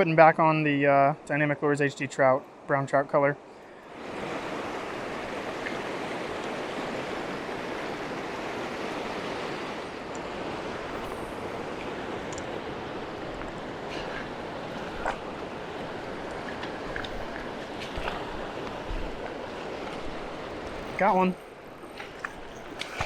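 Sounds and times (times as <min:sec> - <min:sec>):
river water rushing over rocks: 0:03.8 - 0:23.0.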